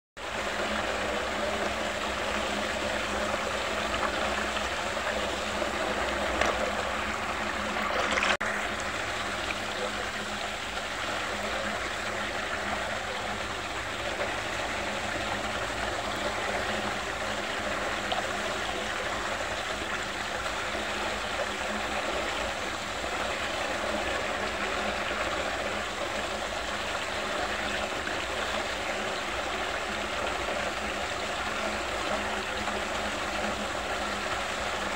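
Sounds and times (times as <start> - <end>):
steady low hum: 0.2 - 34.9
water swirling down drain: 0.2 - 34.9.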